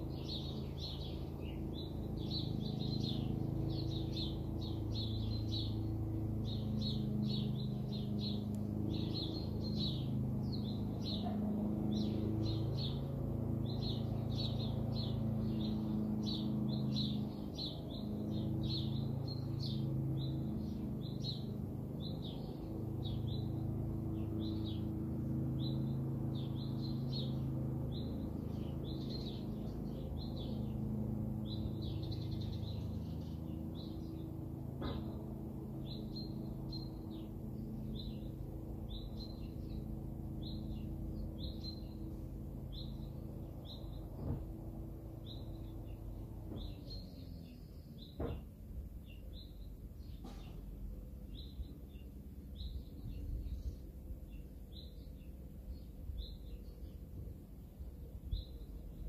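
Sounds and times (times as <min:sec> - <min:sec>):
low steady hum: 0:00.0 - 0:59.0
small birds chirping: 0:00.0 - 0:59.0.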